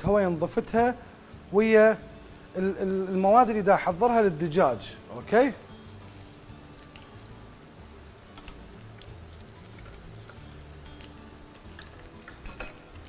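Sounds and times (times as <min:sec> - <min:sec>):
oil sizzling in a frying pan: 0:00.0 - 0:13.0
soft background music: 0:00.0 - 0:13.0.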